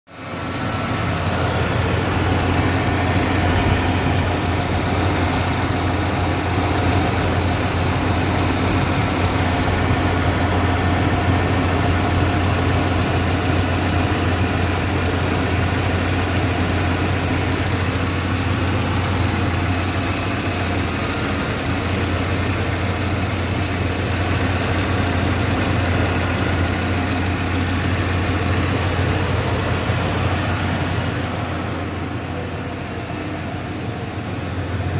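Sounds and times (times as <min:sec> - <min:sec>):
engine idling: 0:00.1 - 0:34.9
fast even engine ticking: 0:00.1 - 0:34.9.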